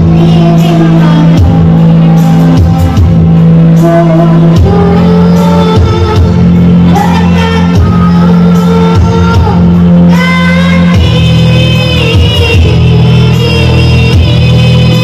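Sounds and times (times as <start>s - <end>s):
backing track of steady chords: 0.0s - 15.0s
girl singing into microphone: 0.0s - 15.0s.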